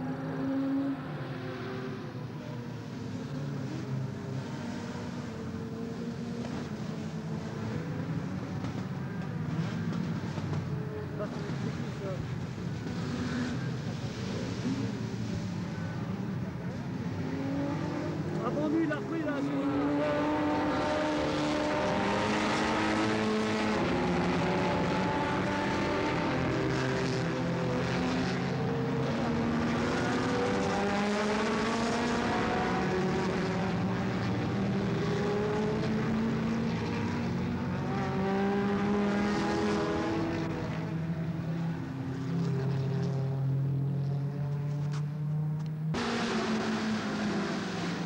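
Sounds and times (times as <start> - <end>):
race cars passing at speed: 0.0 - 48.0.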